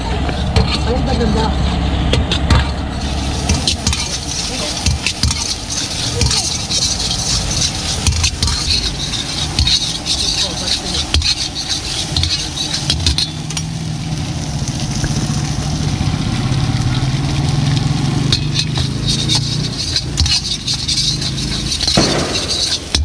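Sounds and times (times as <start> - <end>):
low engine-like hum: 0.0 - 11.2, 13.0 - 22.0
metal spatula scraping a pan: 0.0 - 14.9, 16.4 - 23.0
curry sizzling: 0.0 - 23.0.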